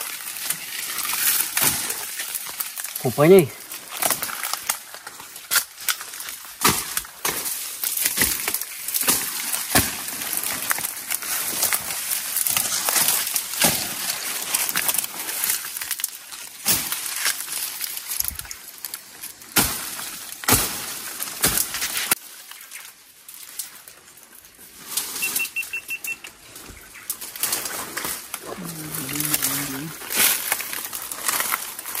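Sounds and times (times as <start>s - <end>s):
twigs snapping: 0.0s - 25.1s, 26.2s - 32.0s
dry leaves crackling: 0.0s - 32.0s
footsteps through dry brush: 0.0s - 32.0s.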